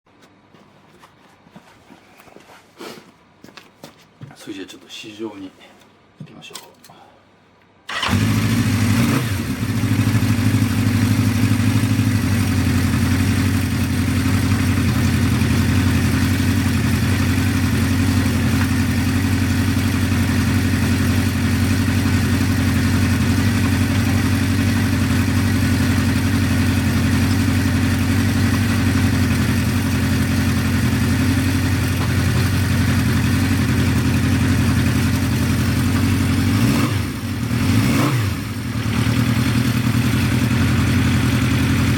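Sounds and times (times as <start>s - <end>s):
motorcycle engine starting and idling: 7.8s - 41.9s
engine revving: 7.9s - 41.9s.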